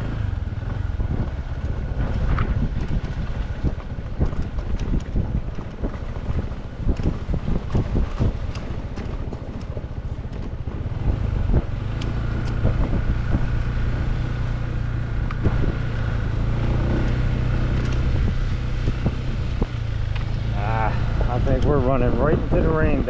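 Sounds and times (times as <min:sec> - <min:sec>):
vehicle engine running: 0:00.0 - 0:23.0
wind buffeting microphone: 0:00.0 - 0:23.0.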